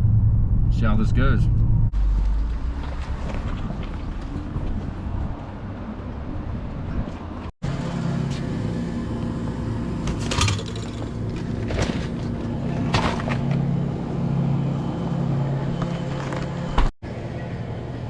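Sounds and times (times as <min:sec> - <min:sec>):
road noise: 0:00.0 - 0:18.0
vehicle engine humming: 0:00.0 - 0:18.0.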